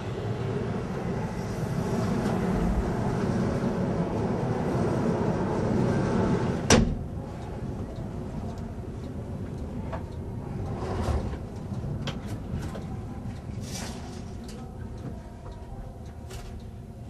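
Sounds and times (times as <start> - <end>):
electric train rumbling: 0.0 - 16.1.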